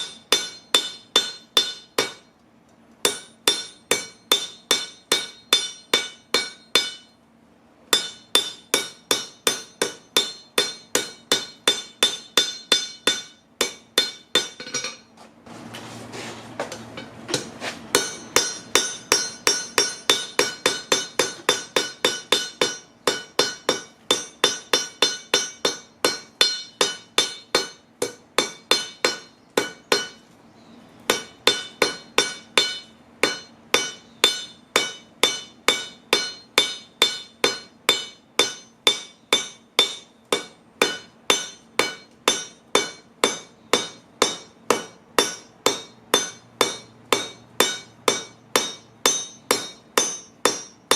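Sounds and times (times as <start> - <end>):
hammer striking anvil: 0.0 - 2.3, 3.0 - 7.2, 7.9 - 15.1, 16.7 - 30.2, 31.1 - 50.9.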